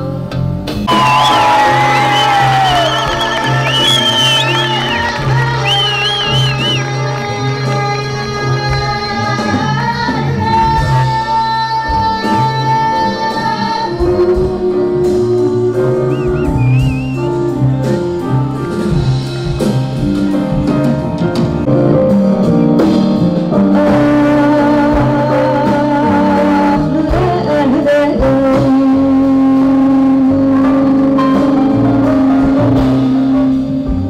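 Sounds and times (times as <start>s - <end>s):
live band with singing: 0.0s - 34.0s.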